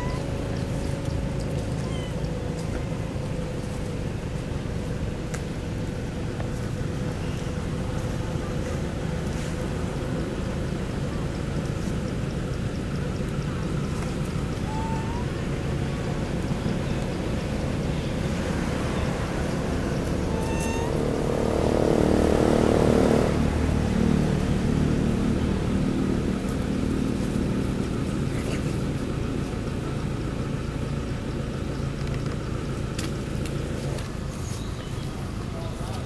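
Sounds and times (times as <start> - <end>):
low outdoor rumble: 0.0 - 36.0
vehicle engine passing by: 0.0 - 36.0.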